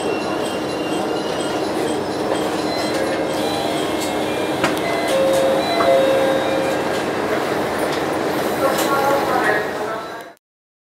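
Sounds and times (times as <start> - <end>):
diesel railcar running noise: 0.0 - 10.4.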